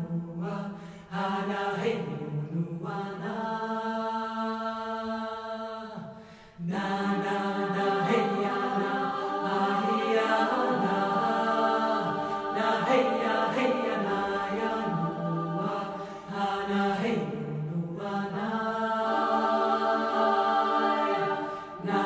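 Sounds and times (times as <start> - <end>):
choir chanting: 0.1 - 22.0.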